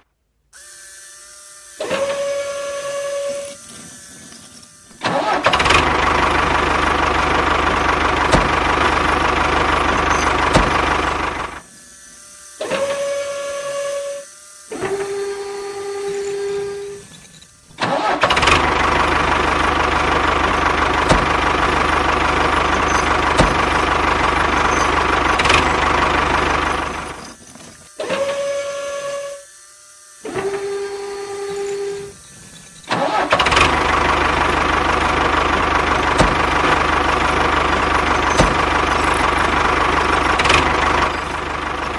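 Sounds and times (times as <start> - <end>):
small motor droning: 0.0 - 41.9.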